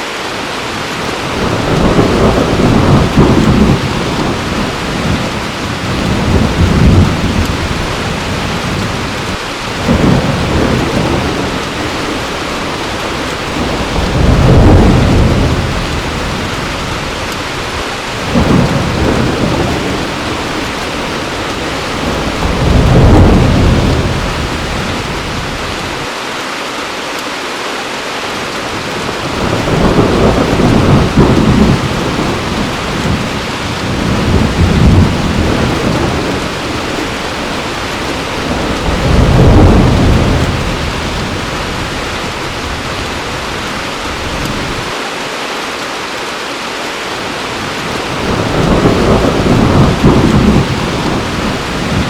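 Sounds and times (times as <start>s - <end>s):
heavy rain falling: 0.0s - 52.0s
thunder rumbling: 0.9s - 26.1s, 28.7s - 45.0s, 47.6s - 52.0s.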